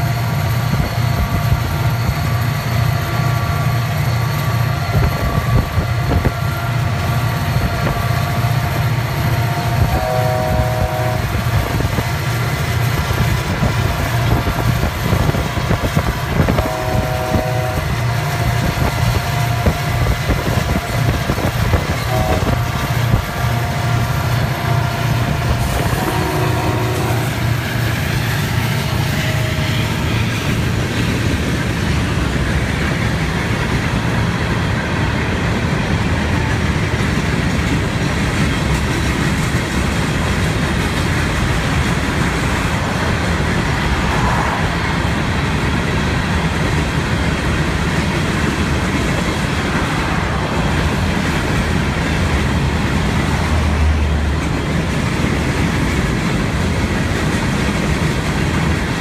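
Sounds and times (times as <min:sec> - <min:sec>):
freight train rumbling past: 0:00.0 - 0:59.0
train wheel clatter: 0:00.0 - 0:59.0.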